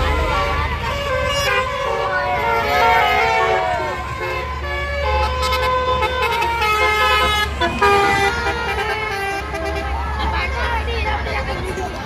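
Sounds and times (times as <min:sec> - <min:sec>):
musical bus horn: 0:00.0 - 0:10.6
low rumble of bus: 0:00.0 - 0:12.0.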